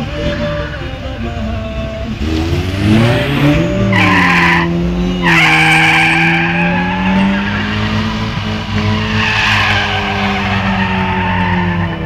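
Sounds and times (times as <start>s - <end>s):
car engine revving: 0.0s - 12.0s
tyres squealing: 0.0s - 12.0s.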